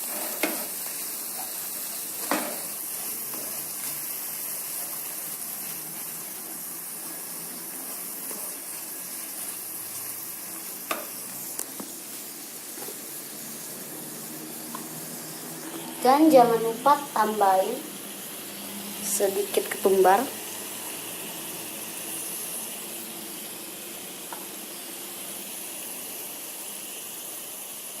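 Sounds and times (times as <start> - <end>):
spice paste sizzling in hot oil: 0.0 - 28.0.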